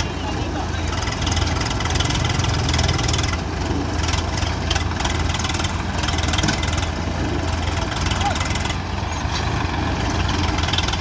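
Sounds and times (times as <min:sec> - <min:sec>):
tractor diesel engines droning: 0:00.0 - 0:11.0.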